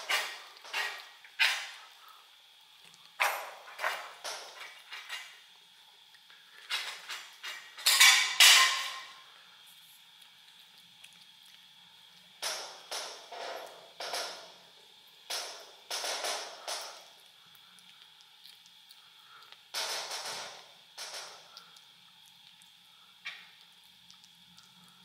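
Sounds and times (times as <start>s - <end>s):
kittens licking and chewing: 0.0s - 25.0s.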